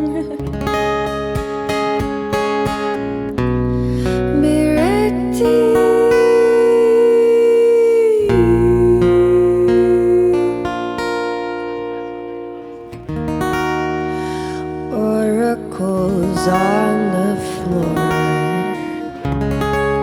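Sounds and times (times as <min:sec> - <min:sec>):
live band with guitar: 0:00.0 - 0:20.0.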